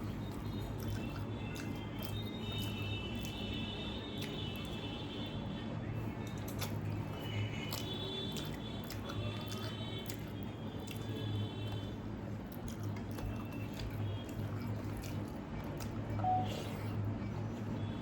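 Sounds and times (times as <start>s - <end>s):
wet chewing: 0.0s - 5.2s, 6.1s - 18.0s.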